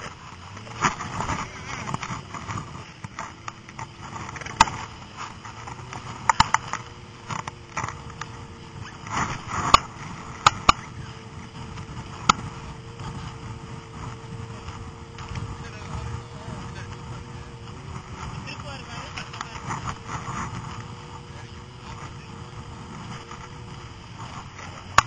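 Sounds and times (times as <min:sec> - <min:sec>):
snowmobile engine drone: 0:00.0 - 0:25.0.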